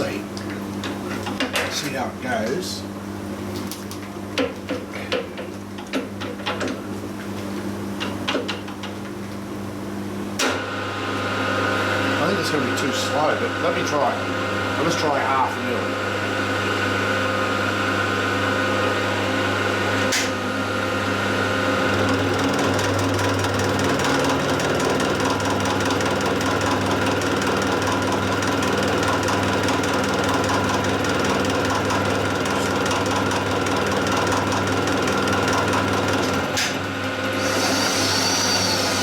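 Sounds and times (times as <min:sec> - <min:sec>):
motor and gears humming: 0:00.0 - 0:39.0.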